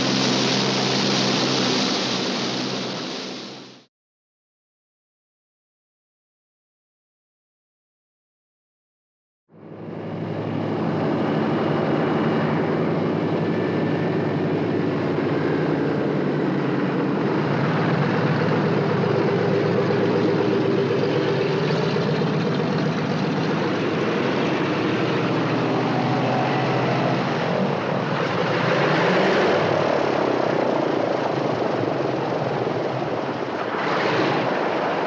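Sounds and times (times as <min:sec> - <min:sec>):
piston aircraft engines running: 0:00.0 - 0:03.8, 0:09.5 - 0:35.0.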